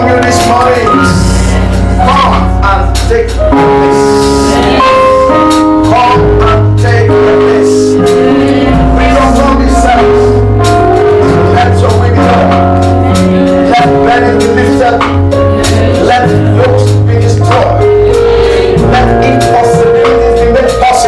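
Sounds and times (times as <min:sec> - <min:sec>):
bass line: 0:00.0 - 0:21.0
keyboard chords: 0:00.0 - 0:21.0.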